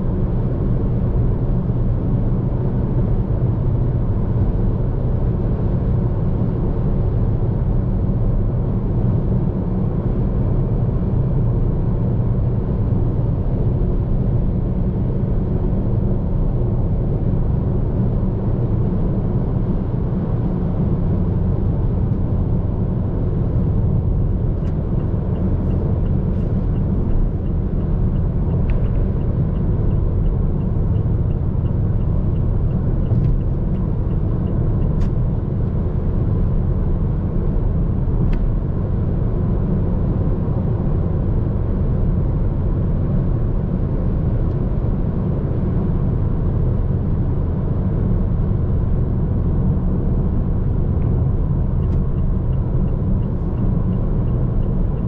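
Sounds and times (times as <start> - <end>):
car cabin road and engine noise: 0.0 - 55.0.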